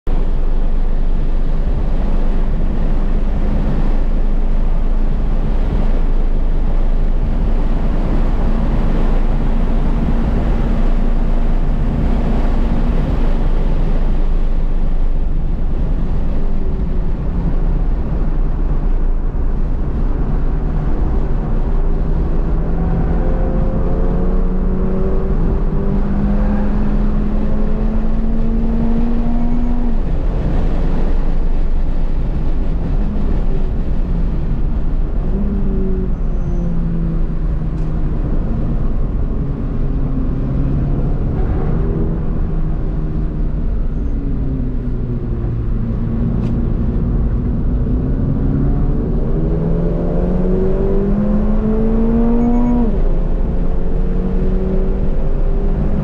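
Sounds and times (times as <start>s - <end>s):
road rumble: 0.0s - 56.0s
car engine from inside cabin: 0.1s - 56.0s
wind noise: 0.1s - 56.0s.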